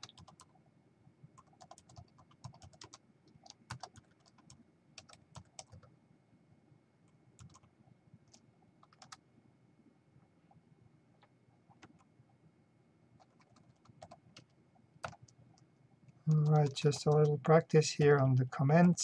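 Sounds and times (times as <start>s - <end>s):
faint typing on keyboard: 0.0s - 6.0s, 7.0s - 9.3s, 10.4s - 12.3s, 13.2s - 19.0s.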